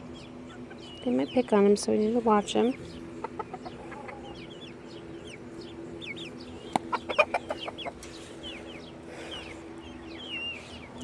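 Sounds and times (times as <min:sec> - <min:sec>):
chickens clucking: 0:00.0 - 0:11.0
chicks peeping: 0:00.0 - 0:11.0.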